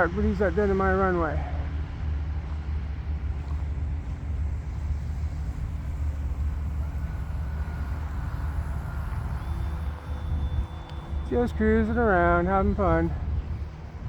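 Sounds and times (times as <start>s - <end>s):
model plane motor whine: 0.0s - 14.0s
wind buffeting microphone: 0.0s - 14.0s.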